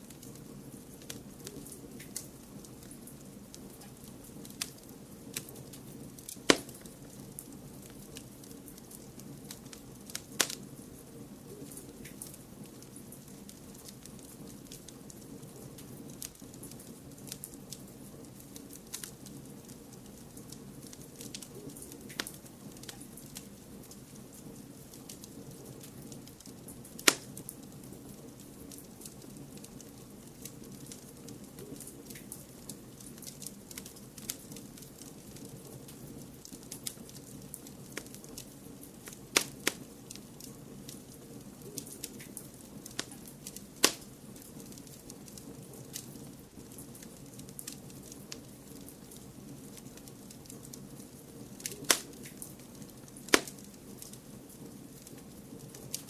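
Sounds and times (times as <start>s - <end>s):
low hiss-like rumble: 0.0s - 56.0s
wood fire crackling: 0.0s - 56.0s.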